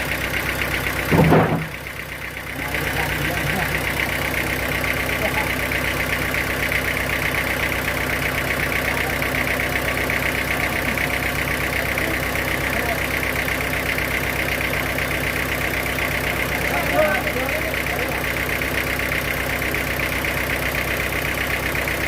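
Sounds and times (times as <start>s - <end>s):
sawmill machinery pulsing hum: 0.0s - 22.0s.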